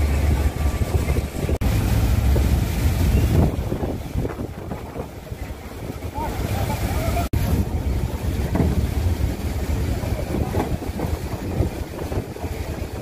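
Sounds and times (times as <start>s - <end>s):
fire hoses spraying water: 0.0s - 13.0s
wind rumble on microphone: 0.0s - 13.0s.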